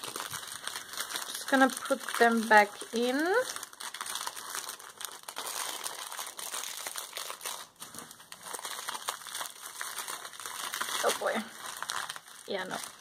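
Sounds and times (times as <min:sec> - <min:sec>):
plastic packet crinkling: 0:00.0 - 0:13.0.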